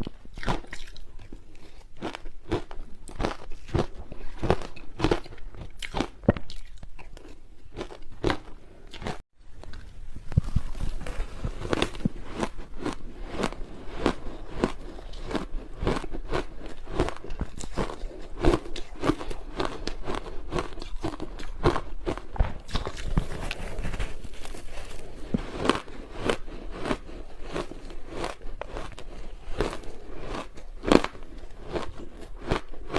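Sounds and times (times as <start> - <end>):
ice being crunched and chewed: 0.0 - 32.9.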